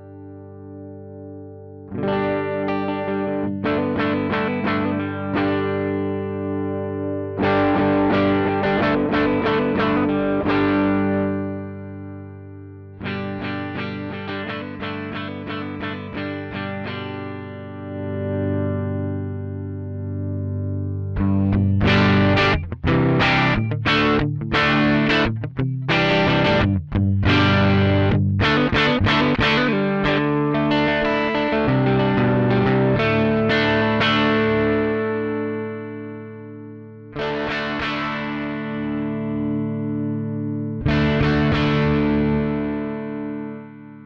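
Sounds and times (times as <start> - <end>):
electric guitar chords: 0.0 - 44.0.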